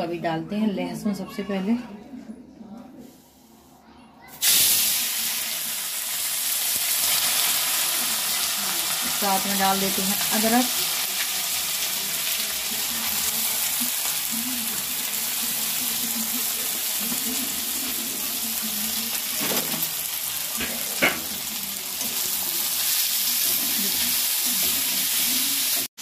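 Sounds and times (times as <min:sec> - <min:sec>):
ginger and garlic sizzling in oil: 0:04.4 - 0:26.0.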